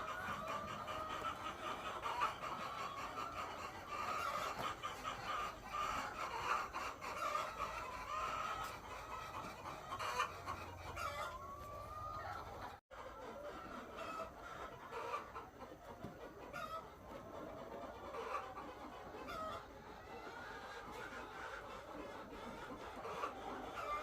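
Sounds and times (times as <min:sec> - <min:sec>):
hens clucking: 0:00.0 - 0:24.0.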